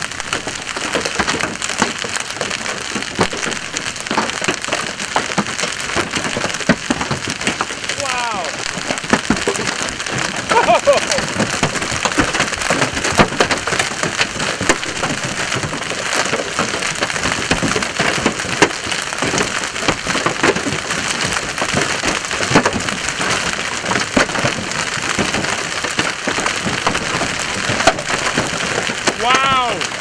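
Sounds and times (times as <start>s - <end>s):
hail falling hard: 0.0s - 30.0s
hailstones striking pavement and vehicles: 0.0s - 30.0s.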